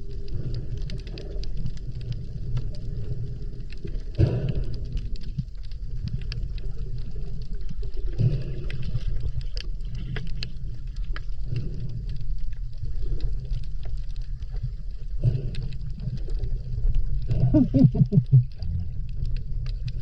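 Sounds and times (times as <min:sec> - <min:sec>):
underwater rumble of moving water: 0:00.0 - 0:20.0.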